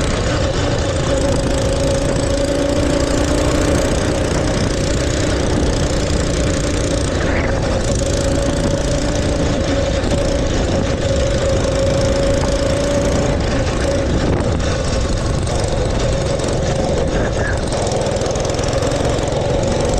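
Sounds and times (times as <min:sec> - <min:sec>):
rumble and rushing noise: 0:00.0 - 0:19.9
small engine buzzing: 0:00.0 - 0:19.9.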